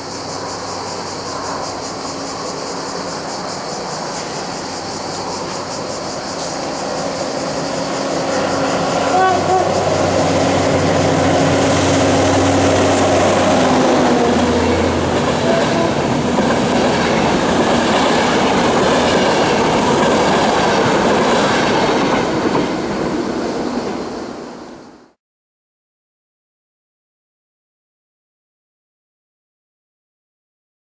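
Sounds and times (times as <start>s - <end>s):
electric locomotive hum: 0.0s - 25.2s
train wheels on rails: 0.0s - 25.2s.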